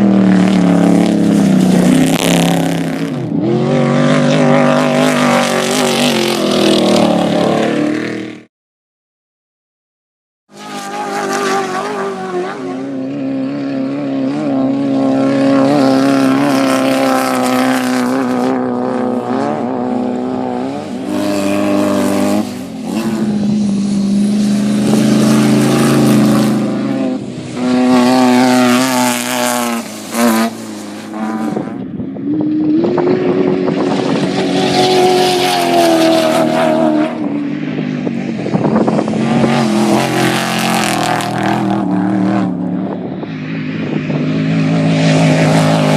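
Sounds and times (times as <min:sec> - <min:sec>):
off-road vehicle engine revving: 0:00.0 - 0:08.5, 0:10.5 - 0:45.9.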